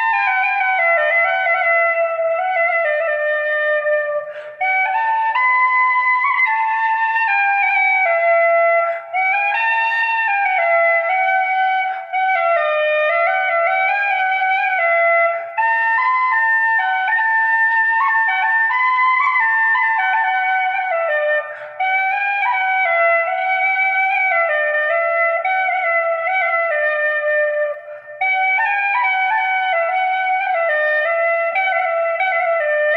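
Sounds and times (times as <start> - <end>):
flute solo melody: 0.0 - 32.9.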